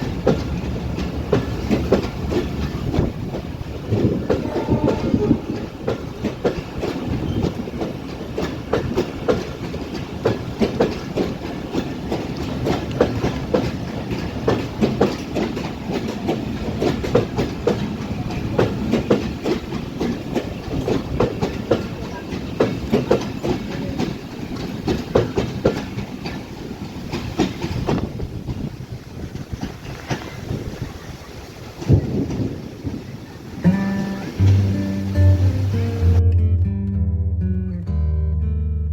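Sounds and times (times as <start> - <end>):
train rumbling on rails: 0.0 - 36.2
wheels clacking over rail joints: 0.0 - 36.2.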